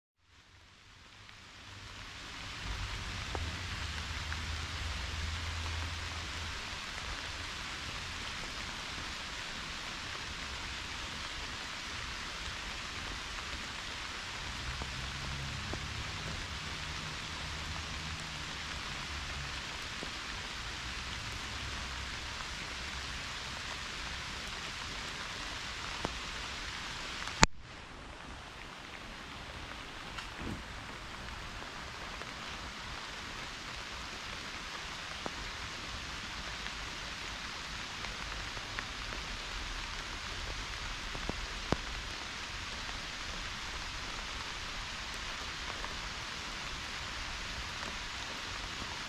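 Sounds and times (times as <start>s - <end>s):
pouring rain: 0.2s - 49.0s.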